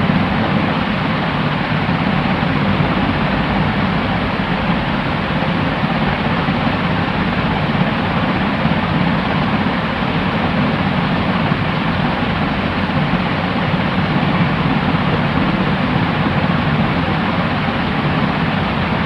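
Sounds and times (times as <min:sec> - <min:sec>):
steady white noise hiss: 0:00.0 - 0:19.0.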